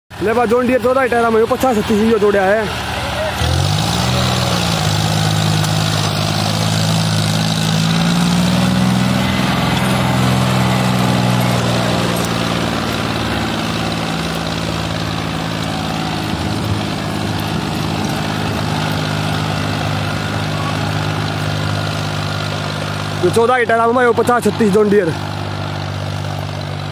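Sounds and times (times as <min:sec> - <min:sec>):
tractor diesel engine running: 0:00.1 - 0:26.9.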